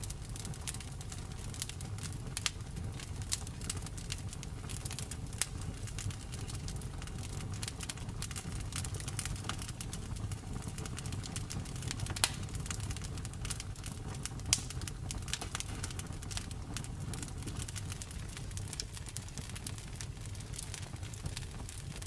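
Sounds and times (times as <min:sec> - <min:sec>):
fire snapping and popping: 0:00.0 - 0:22.0
low rumble of flames: 0:00.0 - 0:22.0.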